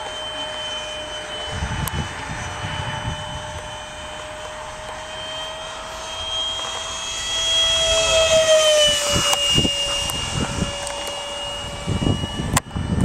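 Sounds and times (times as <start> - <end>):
model plane motor whining: 0.0 - 13.0.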